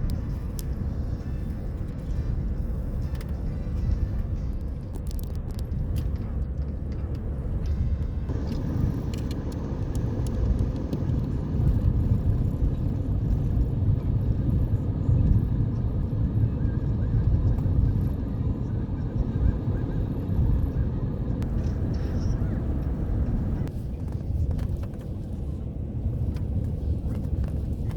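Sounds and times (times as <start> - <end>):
car road noise rumble: 0.0 - 27.9.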